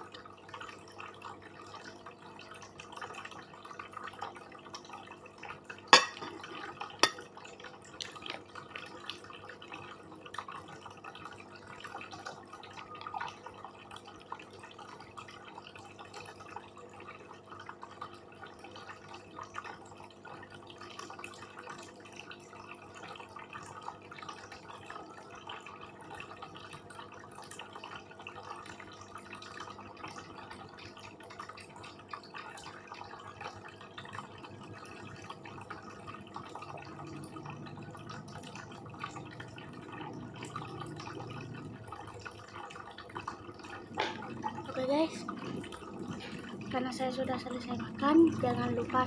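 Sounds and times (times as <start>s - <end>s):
faint background hum: 0.0s - 49.0s.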